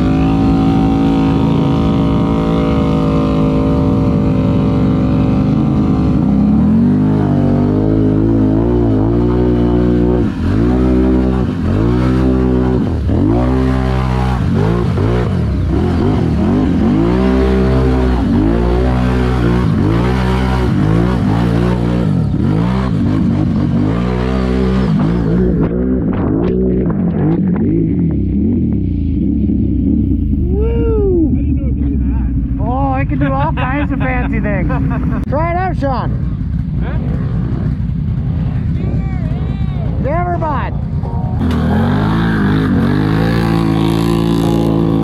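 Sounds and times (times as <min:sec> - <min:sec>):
atv engine revving: 0:00.0 - 0:45.0.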